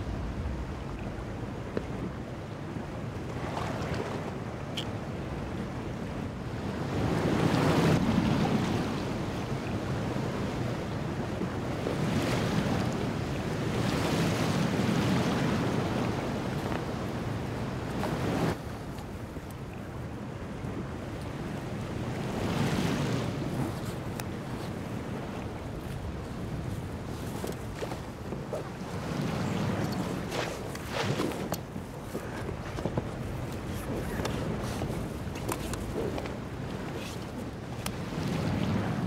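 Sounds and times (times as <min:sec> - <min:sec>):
sea waves: 0:00.0 - 0:39.0
water wash from rowing: 0:00.0 - 0:39.0
wind on open water: 0:00.0 - 0:39.0.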